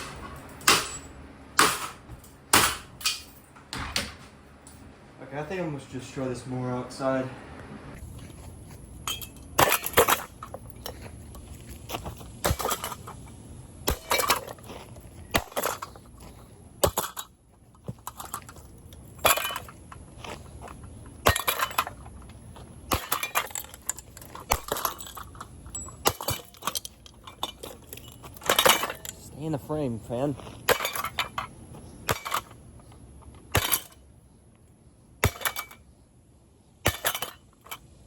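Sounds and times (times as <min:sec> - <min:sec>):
fan parts clinking and breaking: 0:00.0 - 0:04.8, 0:08.2 - 0:34.1, 0:35.2 - 0:35.9, 0:36.8 - 0:38.0.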